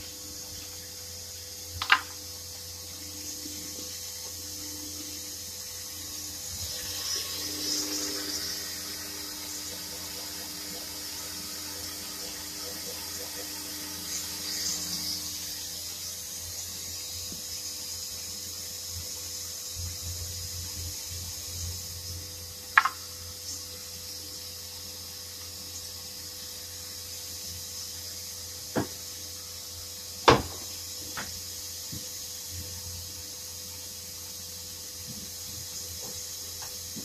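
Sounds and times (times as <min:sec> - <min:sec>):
workshop hum and hiss: 0:00.0 - 0:37.0.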